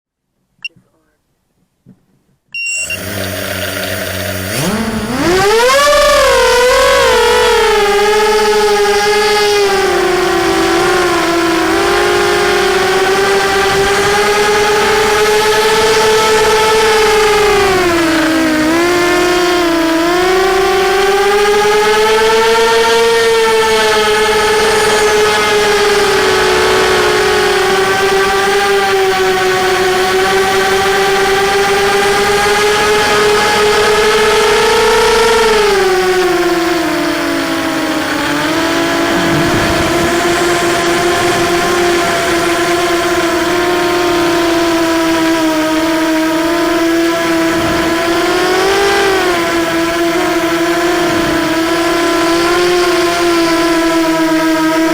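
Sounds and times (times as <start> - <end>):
quadcopter motors whining: 2.6 - 54.9.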